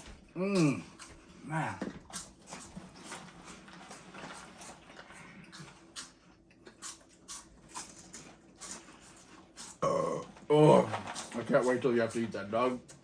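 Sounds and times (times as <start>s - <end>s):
chewing crunchy snacks: 0.0s - 11.9s.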